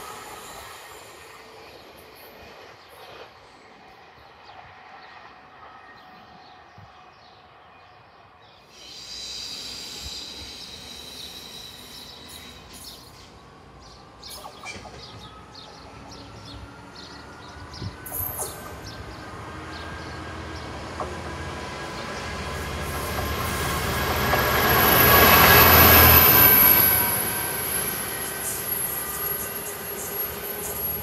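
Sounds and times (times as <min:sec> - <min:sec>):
diesel locomotive engine: 0:00.0 - 0:31.0
diesel train approaching: 0:00.0 - 0:31.0.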